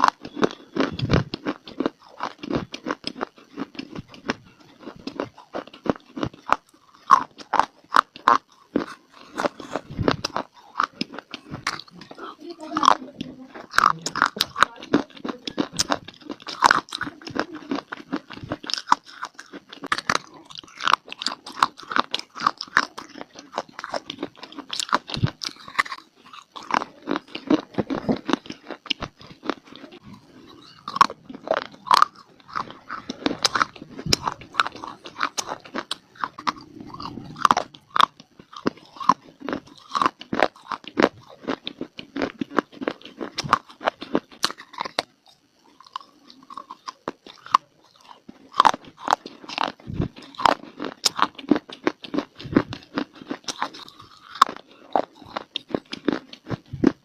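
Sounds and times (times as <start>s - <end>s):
person chewing brittle clay: 0.0s - 57.0s.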